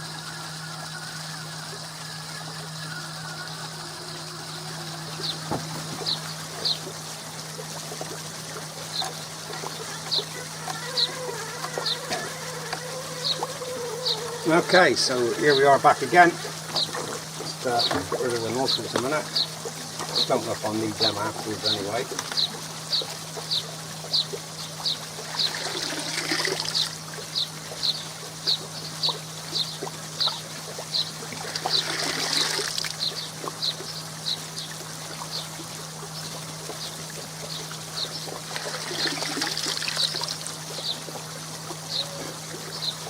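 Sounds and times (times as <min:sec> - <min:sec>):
low pump hum: 0:00.0 - 0:43.0
water trickling and splashing: 0:00.0 - 0:43.0.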